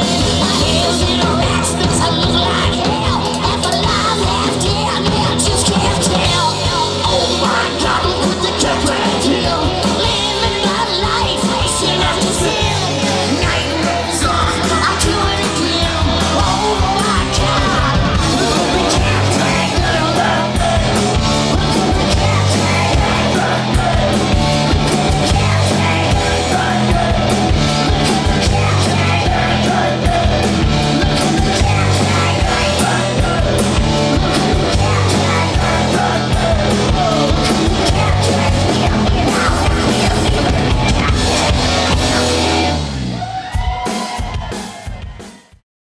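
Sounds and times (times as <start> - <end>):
man singing: 0.0 - 42.7
bass guitar: 0.0 - 45.4
distorted electric guitars: 0.0 - 45.5
drum kit beat: 0.0 - 45.6.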